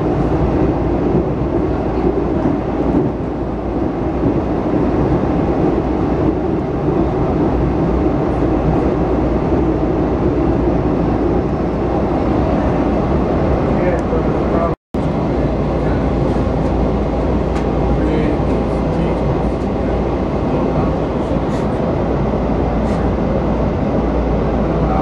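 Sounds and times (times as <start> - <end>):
train ride rumble: 0.0 - 25.0.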